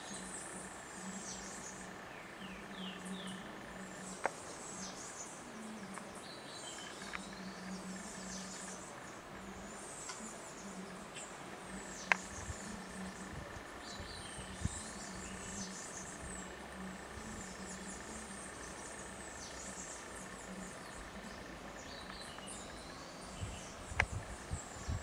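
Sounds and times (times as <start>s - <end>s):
high insect trill: 0.0s - 25.0s.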